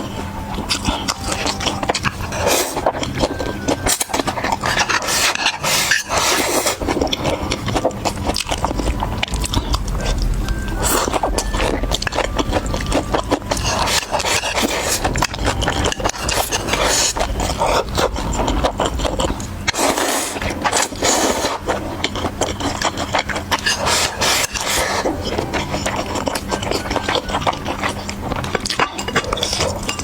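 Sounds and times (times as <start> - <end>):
chewing and biting food: 0.0 - 30.0.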